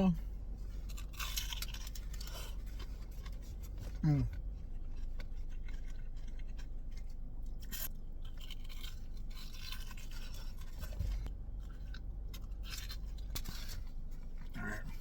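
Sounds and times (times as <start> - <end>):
person chewing crackly food: 0.3 - 15.0.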